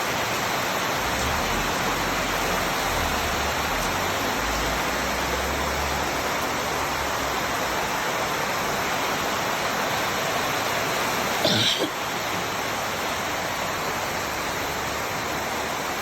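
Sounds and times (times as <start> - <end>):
rushing water or heavy rain: 0.0 - 16.0.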